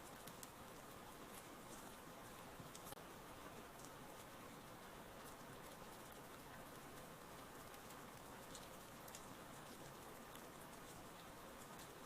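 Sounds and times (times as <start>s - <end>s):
light rain patter: 0.0s - 12.0s
single raindrops ticking: 0.0s - 12.0s.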